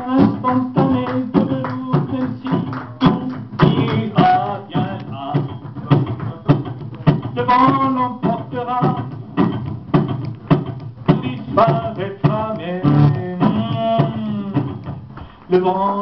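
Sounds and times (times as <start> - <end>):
man singing into a microphone: 0.0 - 6.5, 7.4 - 9.2, 11.1 - 16.0
acoustic guitar strumming: 0.0 - 16.0.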